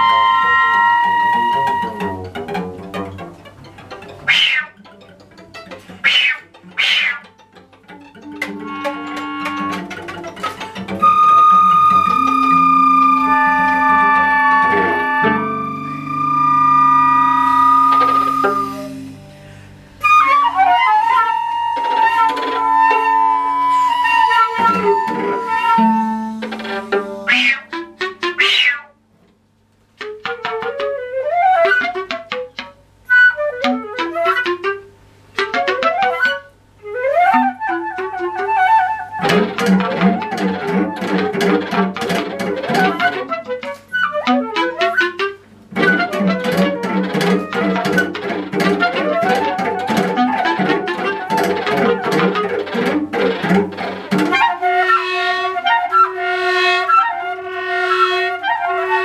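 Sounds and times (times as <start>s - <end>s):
instrumental music: 0.0s - 59.0s.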